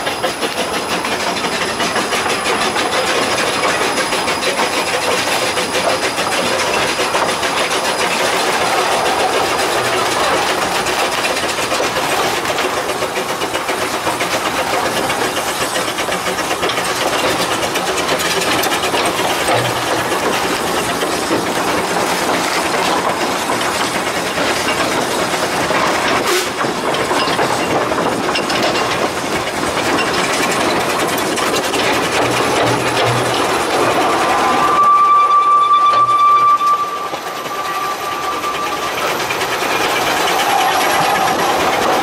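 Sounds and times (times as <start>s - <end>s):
clicks from rails: 0.0s - 34.1s
locomotive engine and wheels running: 0.0s - 42.0s
steam hissing: 0.0s - 42.0s.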